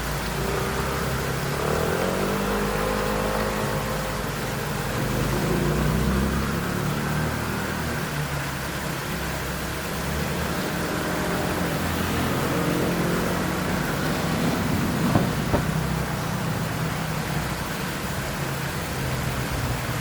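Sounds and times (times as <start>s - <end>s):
motor scooter passing by: 0.0s - 20.0s
small waterfall rushing: 0.0s - 20.0s.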